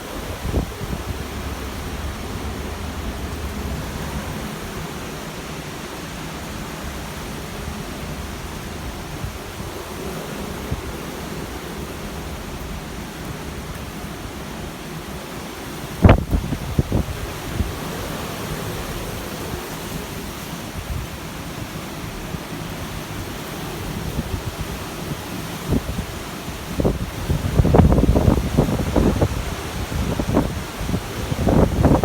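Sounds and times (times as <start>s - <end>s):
strong wind blowing: 0.0s - 32.0s
wind buffeting microphone: 0.0s - 32.0s.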